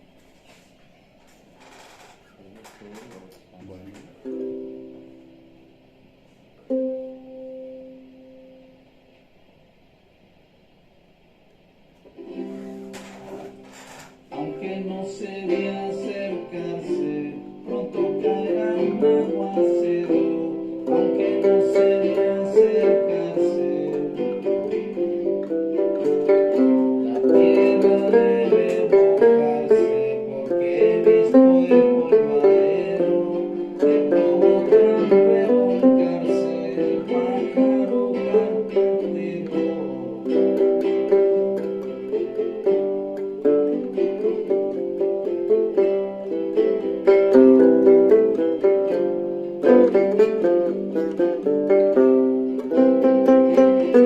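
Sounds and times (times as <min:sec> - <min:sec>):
plucked string instruments music: 0:02.6 - 0:09.0, 0:12.0 - 0:54.0.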